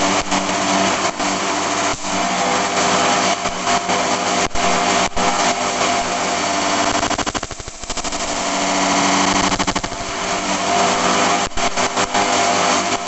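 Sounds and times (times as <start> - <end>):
motor with rattling pulse: 0.0 - 13.0.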